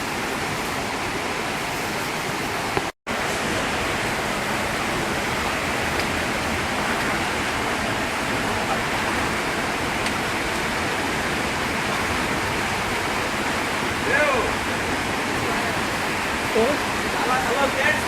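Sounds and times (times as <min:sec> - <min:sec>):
rushing water roar: 0:00.0 - 0:18.0.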